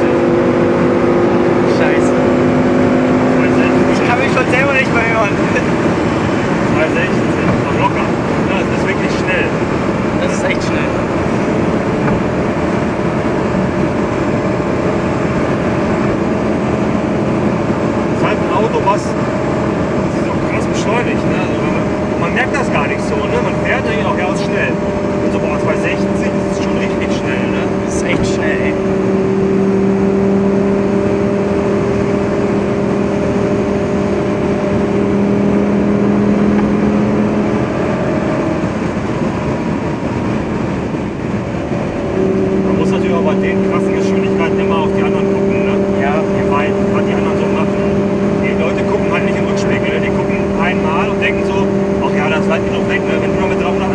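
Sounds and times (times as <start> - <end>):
car engine at high speed: 0.0 - 53.9
loud wind: 0.0 - 53.9.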